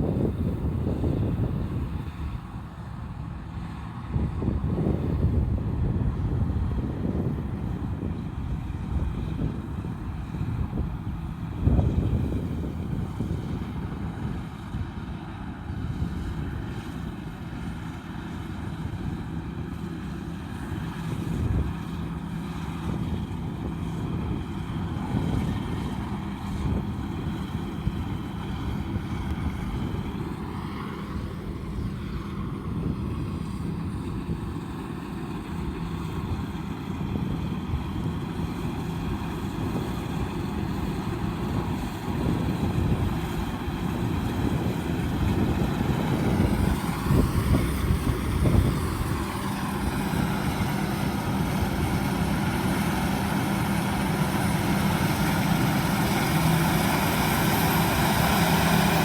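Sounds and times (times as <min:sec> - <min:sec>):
combine harvester engine droning: 0:00.0 - 0:59.0.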